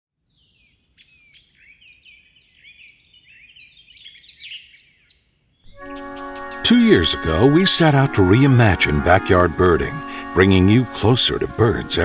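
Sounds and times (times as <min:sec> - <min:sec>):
songbirds chirping: 0:00.3 - 0:12.0.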